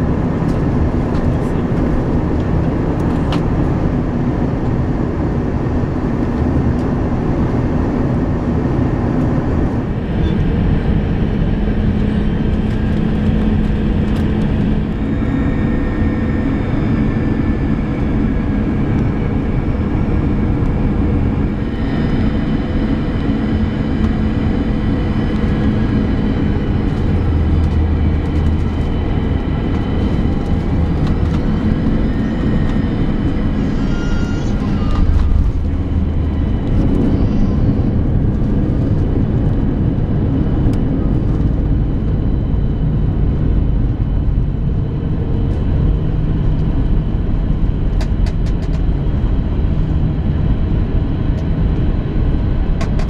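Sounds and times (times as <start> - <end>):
airflow and jet engine rush: 0.0 - 53.0
deep rumble: 0.0 - 53.0
faint engine tones: 0.0 - 53.0.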